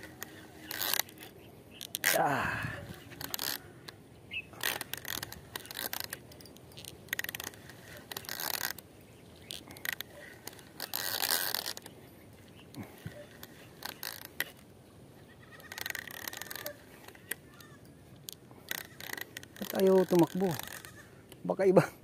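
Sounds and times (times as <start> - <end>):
fishing reel whirring and clicking: 0.0 - 3.8, 4.5 - 11.9, 12.8 - 14.6, 15.6 - 21.0.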